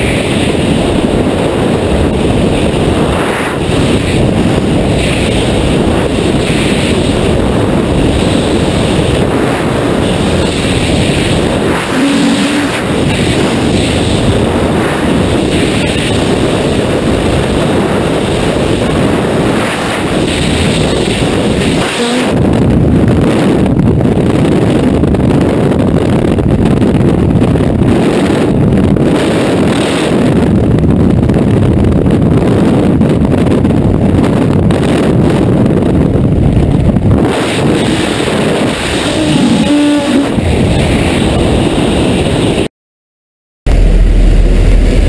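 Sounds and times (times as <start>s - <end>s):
freefall wind buffeting microphone: 0.0s - 42.7s, 43.7s - 45.0s.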